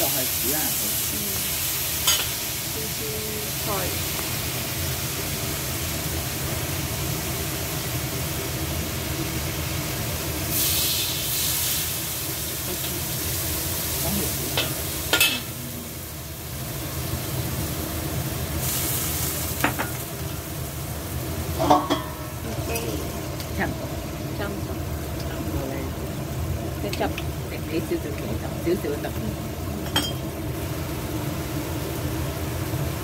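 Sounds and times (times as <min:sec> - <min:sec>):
tomatoes sizzling in oil: 0:00.0 - 0:33.0
water hissing on hot pan: 0:00.0 - 0:33.0.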